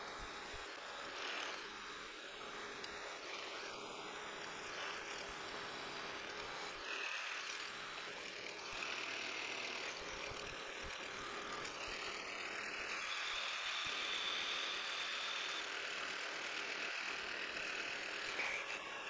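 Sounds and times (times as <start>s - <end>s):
drill cutting steel: 0.0s - 19.0s
faint high whine: 0.0s - 19.0s
milling machine spindle running: 0.0s - 19.0s.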